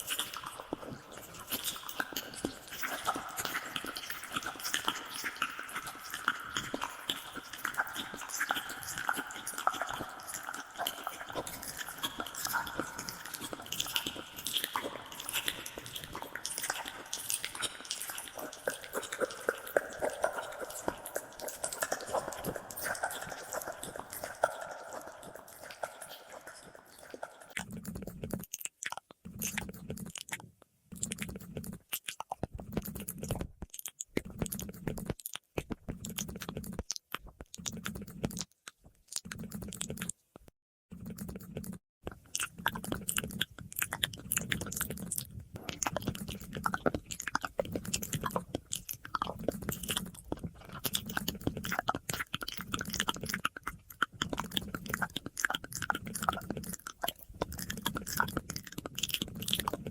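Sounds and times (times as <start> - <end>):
wet mouth clicks and smacks: 0.0 - 59.9.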